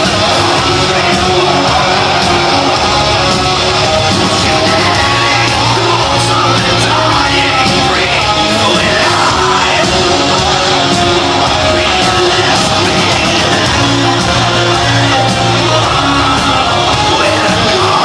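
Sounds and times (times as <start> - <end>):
heavy metal band playing live: 0.0 - 18.0
shouted and sung lead vocal: 0.0 - 18.0.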